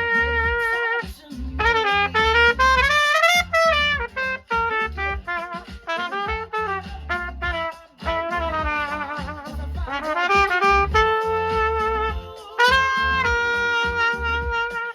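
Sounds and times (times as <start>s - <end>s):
bass line: 0.0s - 14.9s
brass lead melody: 0.0s - 14.9s.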